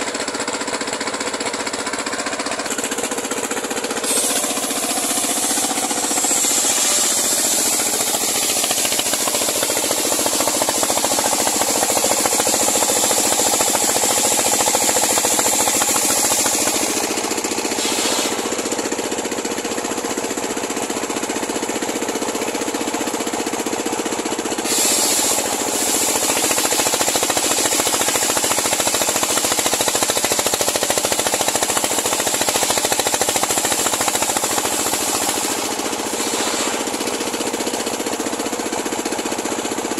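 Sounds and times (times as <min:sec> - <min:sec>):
circular sawmill engine running: 0:00.0 - 0:39.9.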